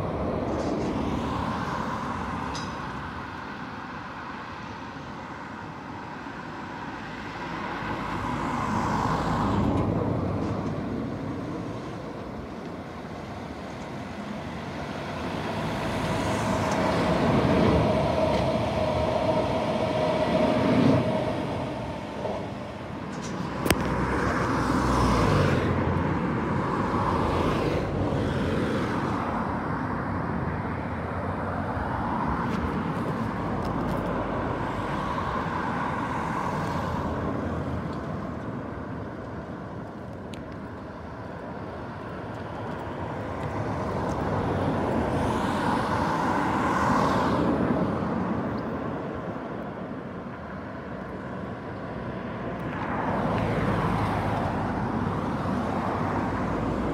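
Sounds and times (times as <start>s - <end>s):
road traffic passing: 0.0s - 56.9s.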